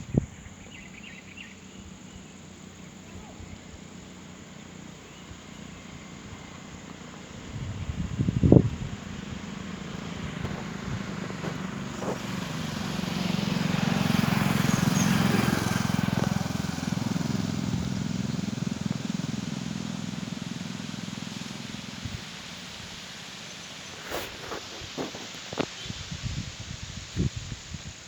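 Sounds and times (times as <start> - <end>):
vehicle engine passing by: 0.7 - 26.1.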